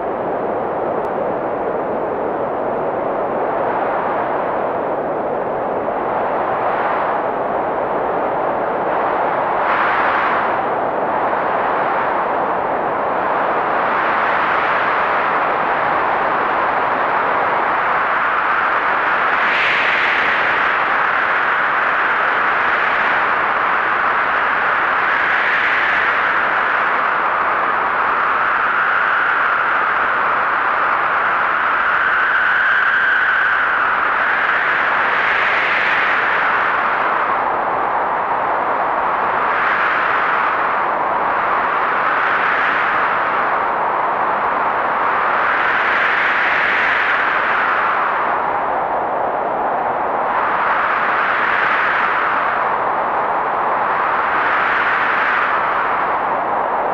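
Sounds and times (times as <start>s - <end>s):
faint wind whistling: 0.0s - 56.9s
howling blizzard wind: 0.0s - 56.9s.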